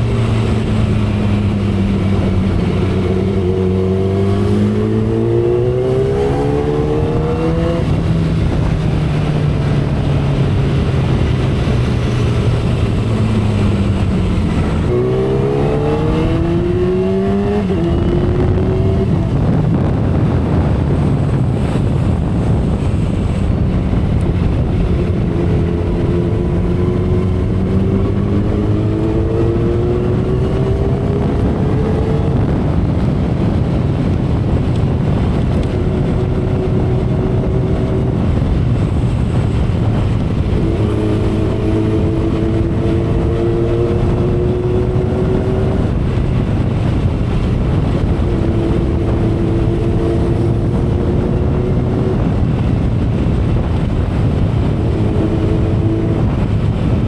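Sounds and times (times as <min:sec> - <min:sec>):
heavy wind noise: 0:00.0 - 0:57.0
motorcycle engine at speed: 0:00.0 - 0:57.0.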